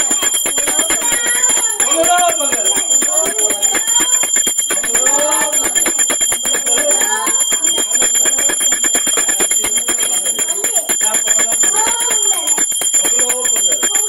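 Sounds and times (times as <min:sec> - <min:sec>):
hand bell ringing rapidly: 0:00.0 - 0:14.0
people's voices: 0:00.0 - 0:14.0.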